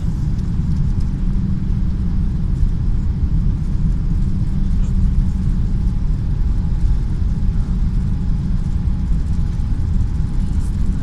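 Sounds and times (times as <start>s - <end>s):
jet airliner cabin rumble: 0.0s - 11.0s.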